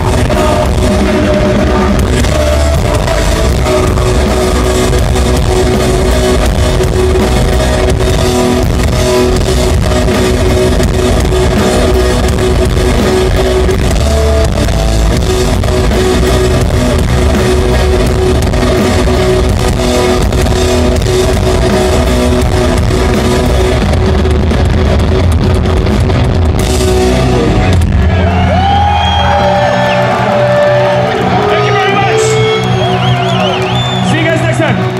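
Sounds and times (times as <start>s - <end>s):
rock band playing: 0.0s - 34.9s.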